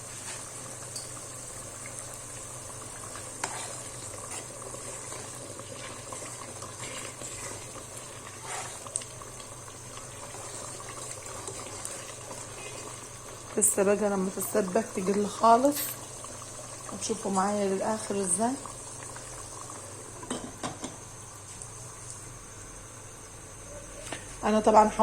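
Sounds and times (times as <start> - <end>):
food bubbling in a pot: 0.0 - 25.0.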